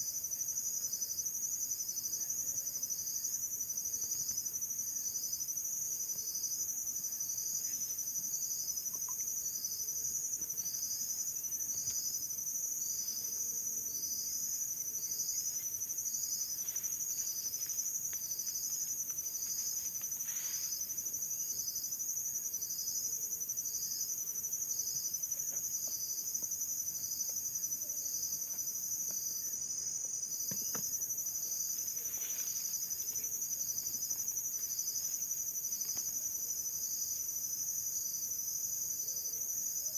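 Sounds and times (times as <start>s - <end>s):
cricket chirp: 0.0s - 39.9s.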